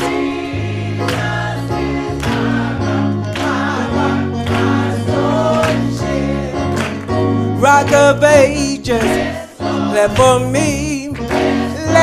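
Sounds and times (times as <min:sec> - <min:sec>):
voices singing gospel: 0:00.0 - 0:12.0.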